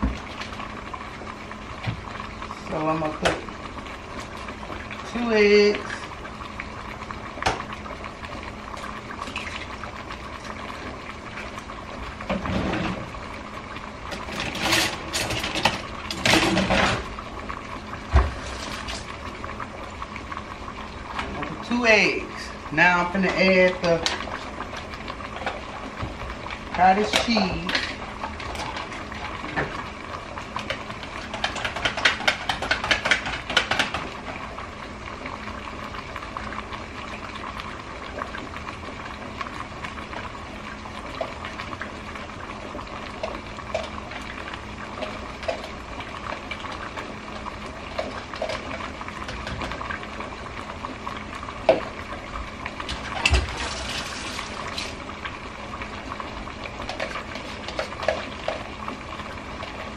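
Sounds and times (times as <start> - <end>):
pot of water boiling: 0.0 - 59.9.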